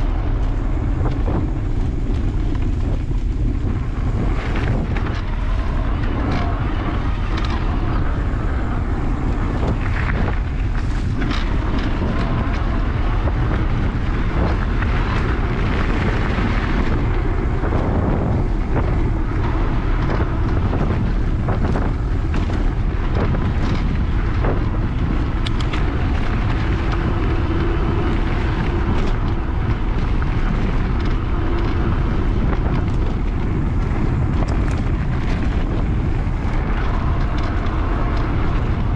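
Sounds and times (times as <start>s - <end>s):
bike clicks and rattles: 0.0s - 38.9s
wind rumbling over microphone: 0.0s - 38.9s.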